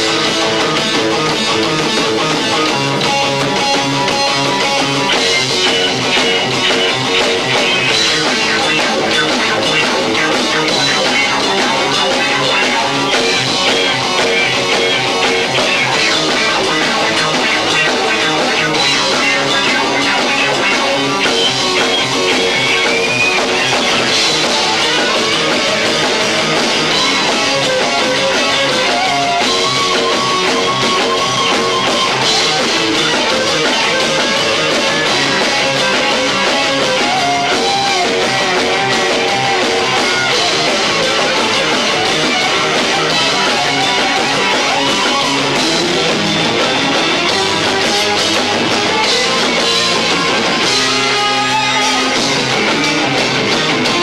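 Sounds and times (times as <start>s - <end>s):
bass: 0.0s - 54.0s
distorted electric guitar: 0.0s - 54.0s
drums: 0.0s - 54.0s.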